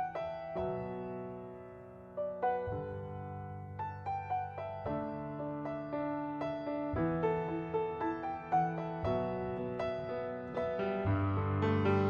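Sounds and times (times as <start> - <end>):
solo piano melody: 0.0 - 12.0.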